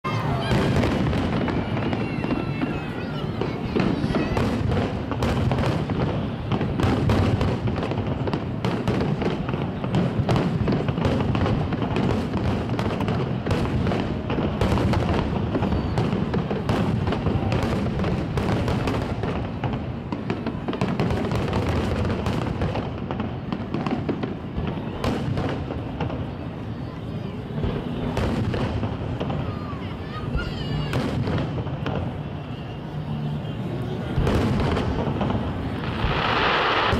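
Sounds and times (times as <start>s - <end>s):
fireworks bangs and crackles: 0.0s - 36.9s
deep fireworks booms: 0.1s - 36.9s.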